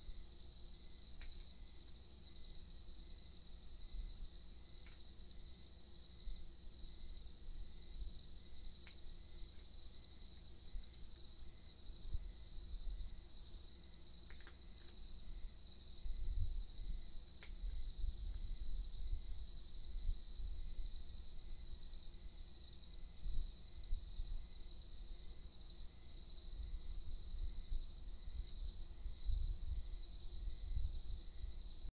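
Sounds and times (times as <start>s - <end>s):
night insects trilling: 0.0s - 31.9s.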